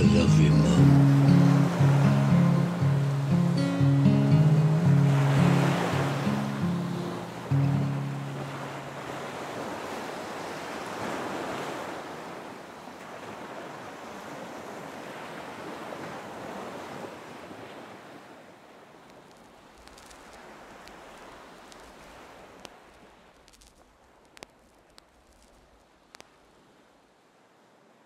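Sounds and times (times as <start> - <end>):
surf washing onto beach: 0.0 - 26.8
wind: 0.0 - 28.0.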